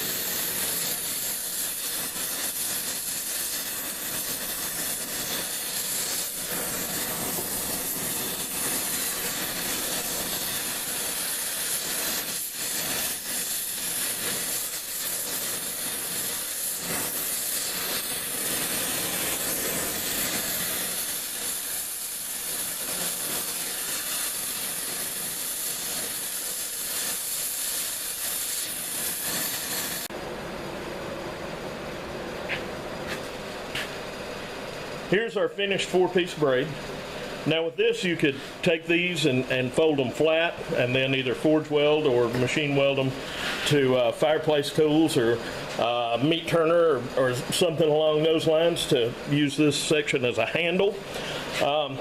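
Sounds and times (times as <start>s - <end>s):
torch flame hissing: 0.0s - 52.0s.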